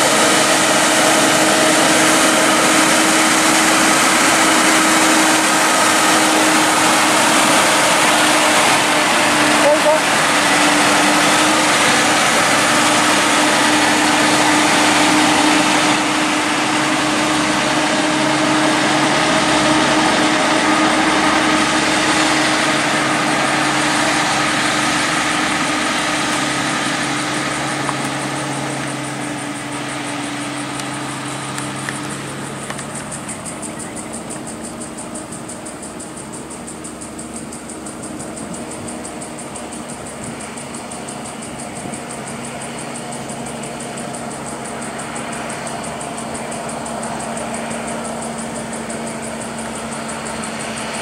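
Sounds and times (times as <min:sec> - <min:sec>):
truck diesel engine passing: 0:00.0 - 0:51.0.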